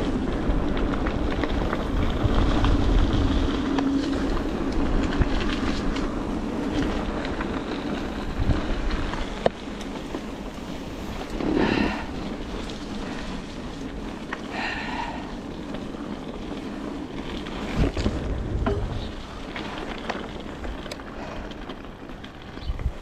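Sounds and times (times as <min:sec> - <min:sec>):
bike rattling: 0:00.0 - 0:23.0
bike rolling on dirt trail: 0:00.0 - 0:23.0
wind buffeting microphone: 0:00.0 - 0:23.0.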